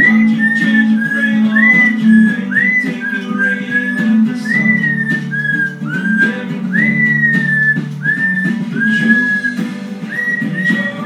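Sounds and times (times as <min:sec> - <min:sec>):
acoustic guitar pop music: 0:00.0 - 0:11.0
parrot whistling: 0:00.0 - 0:11.0.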